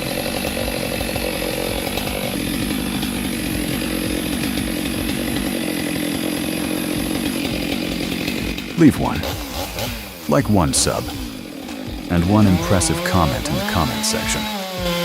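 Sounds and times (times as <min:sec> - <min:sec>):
chainsaw cutting tree trunk: 0:00.0 - 0:15.0.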